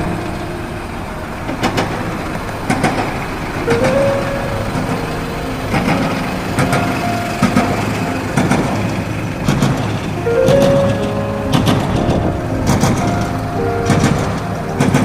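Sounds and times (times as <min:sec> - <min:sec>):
vehicle traffic rumble: 0:00.0 - 0:15.0.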